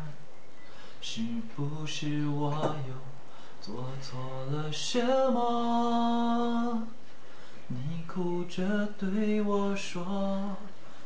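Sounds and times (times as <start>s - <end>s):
man singing unaccompanied: 0.0s - 0.3s, 1.0s - 11.0s.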